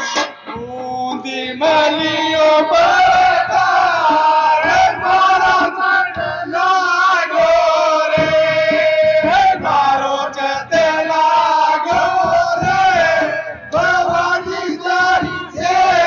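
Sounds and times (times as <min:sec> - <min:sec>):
accompanying music: 0:00.0 - 0:16.0
voices singing devotional folk song: 0:00.1 - 0:16.0.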